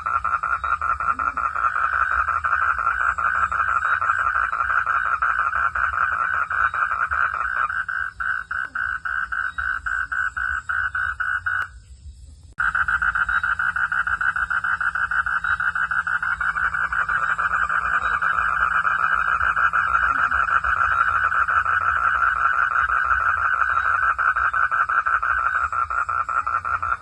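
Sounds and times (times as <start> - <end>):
frogs calling in pulsing trill: 0.0 - 27.0.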